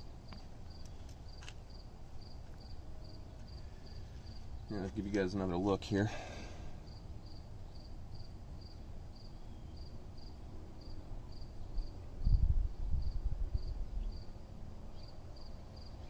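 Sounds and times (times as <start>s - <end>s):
cricket chirping: 0.0s - 4.7s, 6.1s - 12.4s, 13.0s - 16.0s.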